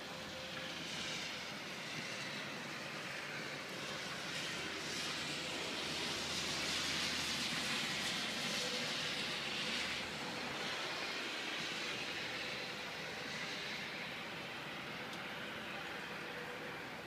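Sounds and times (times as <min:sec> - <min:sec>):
car tyres hissing on wet road: 0:00.2 - 0:17.0.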